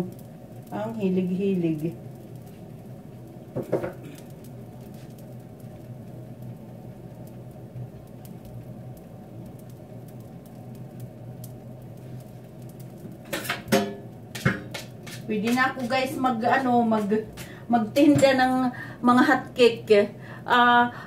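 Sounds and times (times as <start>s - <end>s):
pancake crackling in pan: 0.0s - 18.6s
steady low hum: 0.0s - 21.0s.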